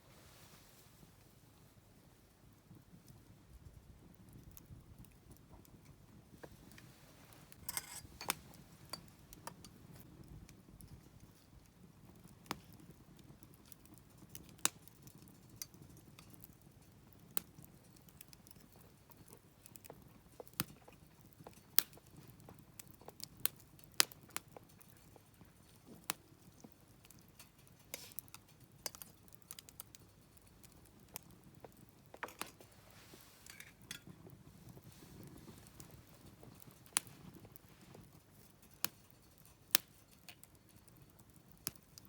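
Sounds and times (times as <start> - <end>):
campfire crackling: 0.2 - 42.0
burning wood popping: 2.7 - 42.0.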